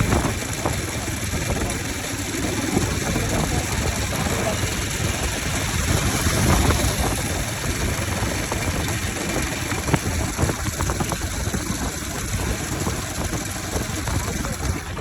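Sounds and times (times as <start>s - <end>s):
engine popping: 0.0s - 15.0s.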